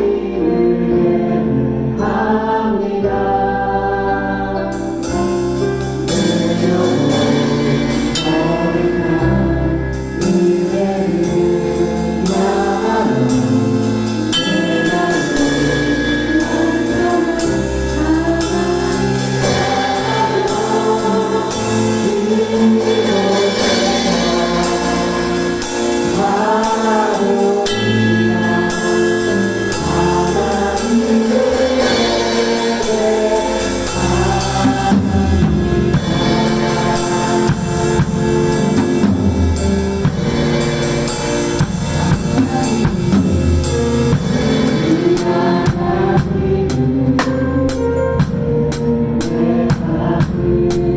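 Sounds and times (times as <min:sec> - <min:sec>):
choir singing worship song: 0:00.0 - 0:50.9
drum kit steady beat: 0:04.7 - 0:50.9.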